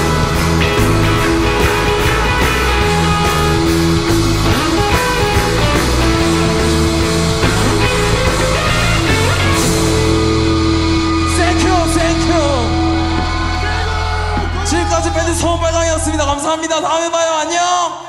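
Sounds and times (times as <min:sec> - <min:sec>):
bass guitar: 0:00.0 - 0:16.4
distorted electric guitars: 0:00.0 - 0:16.6
drums: 0:00.0 - 0:16.8.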